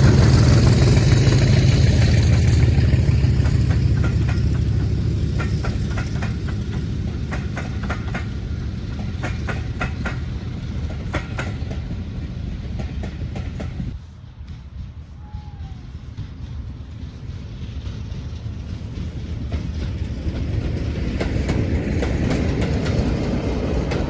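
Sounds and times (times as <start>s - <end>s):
diesel train engine rumble: 0.0s - 24.0s
wheels clicking over rail joints: 0.0s - 24.0s.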